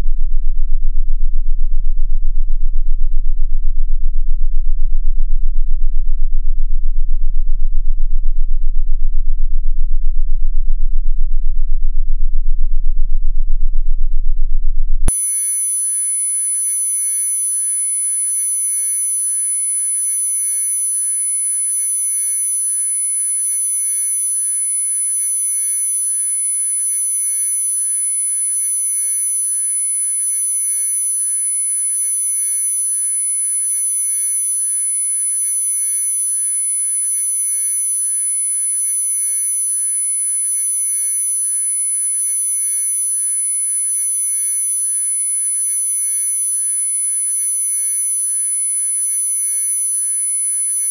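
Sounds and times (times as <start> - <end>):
faint lower sine tones: 0.0 - 50.9
high thin sine tone: 0.0 - 50.9.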